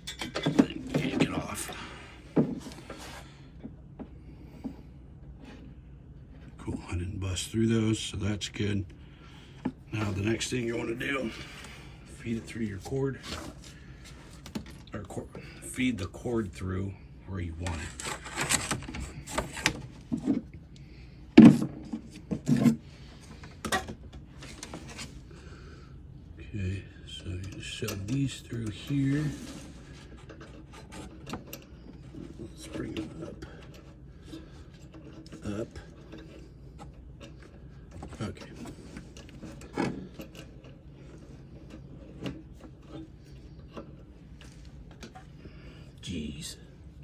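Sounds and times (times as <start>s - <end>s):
hands working wires: 0.0s - 7.9s, 9.3s - 16.7s, 17.4s - 26.4s, 27.0s - 47.0s
low steady hum: 0.0s - 47.0s.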